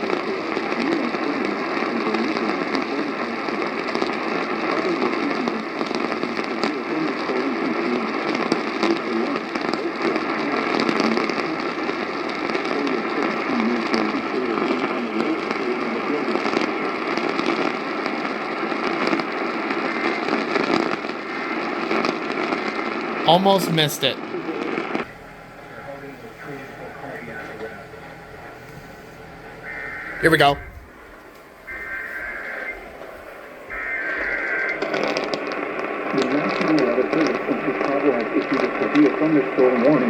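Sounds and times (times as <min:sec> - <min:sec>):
radio static hiss and crackles: 0:00.0 - 0:40.0.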